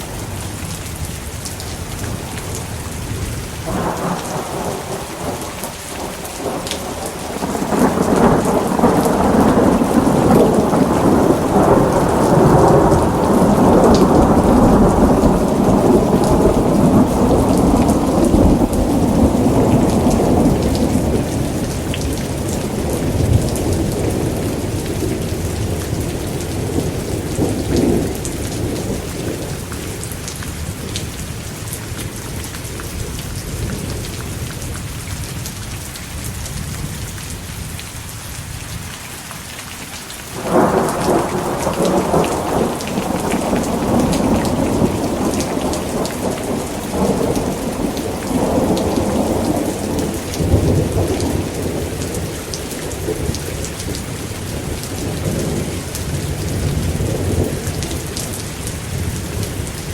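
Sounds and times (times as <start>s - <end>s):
thunder rumbling: 0.0s - 31.4s, 40.3s - 59.9s
heavy rain: 0.0s - 59.9s.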